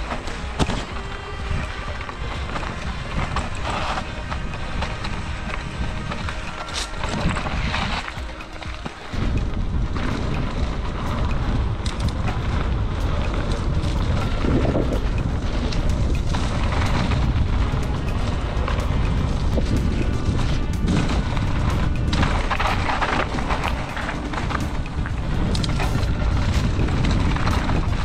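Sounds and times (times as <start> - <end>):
bike clicks and rattles: 0.0 - 28.0
wind buffeting microphone: 0.0 - 28.0.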